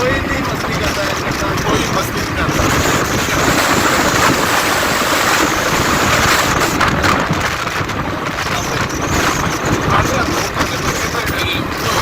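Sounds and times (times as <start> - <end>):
traffic noise: 0.0 - 12.0
wind rushing over microphone: 0.0 - 12.0.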